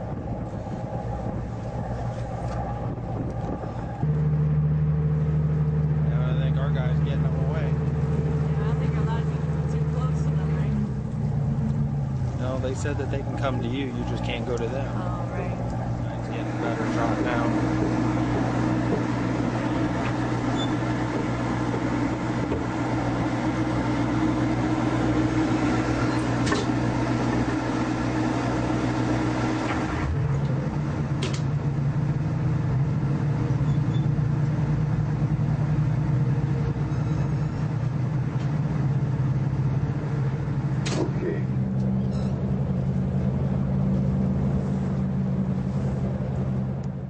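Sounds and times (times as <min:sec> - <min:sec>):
boat engine droning: 0:00.0 - 0:47.0.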